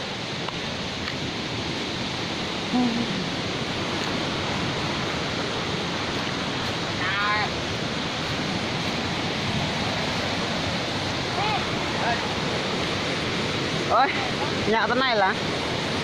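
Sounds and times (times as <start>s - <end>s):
mountain stream and waterfall: 0.0s - 16.0s.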